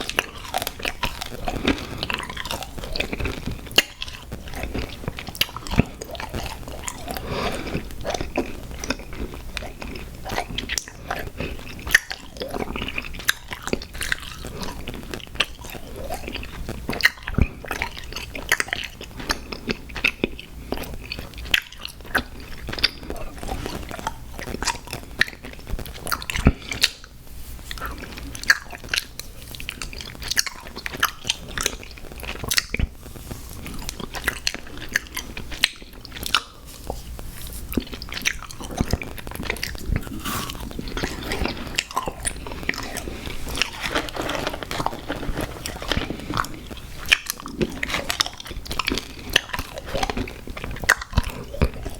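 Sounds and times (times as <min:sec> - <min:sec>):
crunching gummy cereal: 0:00.0 - 0:27.1, 0:27.7 - 0:51.9
moist chewing: 0:00.0 - 0:51.9.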